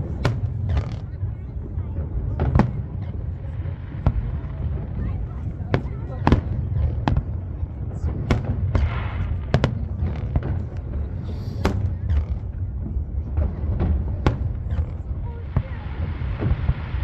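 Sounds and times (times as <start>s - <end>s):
fireworks sharp bangs: 0.0s - 17.0s.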